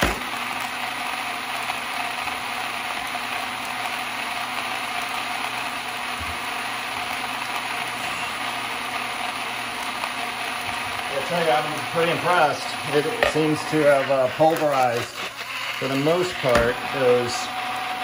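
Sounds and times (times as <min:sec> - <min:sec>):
blender blending frozen fruit: 0:00.0 - 0:18.0.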